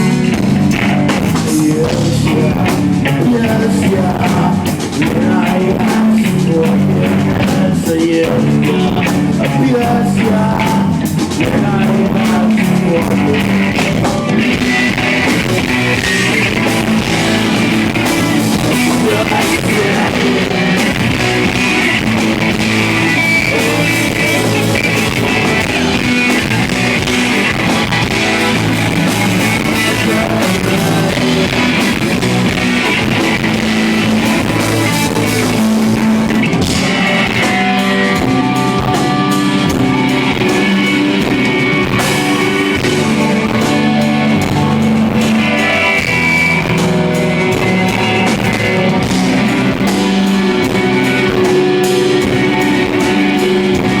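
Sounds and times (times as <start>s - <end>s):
distorted electric guitars: 0.0s - 54.0s
drum kit: 0.0s - 54.0s
live rock band playing: 0.0s - 54.0s.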